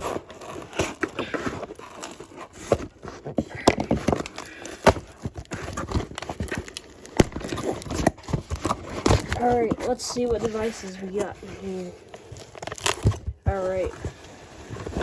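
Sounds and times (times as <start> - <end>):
package being opened: 0.0 - 10.9, 12.1 - 13.3
crackly rustling: 0.0 - 15.0.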